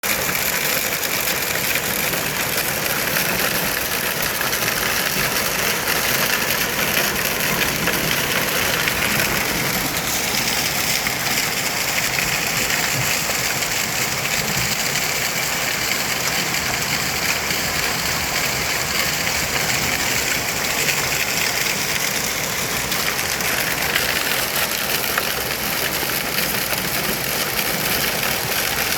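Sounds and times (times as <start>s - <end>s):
hail clattering on hard surfaces: 0.0s - 28.9s.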